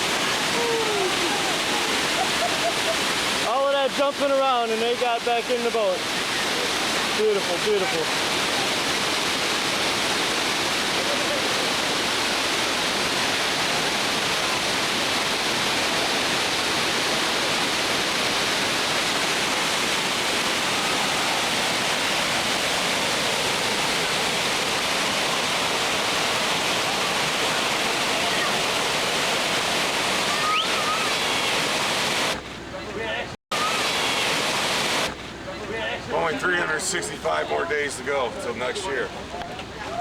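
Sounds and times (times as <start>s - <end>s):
river rapids rushing: 0.0s - 32.4s, 33.2s - 40.0s.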